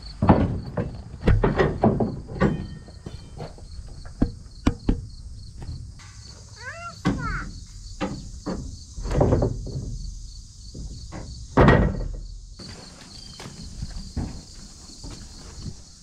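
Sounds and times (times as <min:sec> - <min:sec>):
crickets chirping: 0:00.0 - 0:16.0
knocks and thumps: 0:00.0 - 0:16.0.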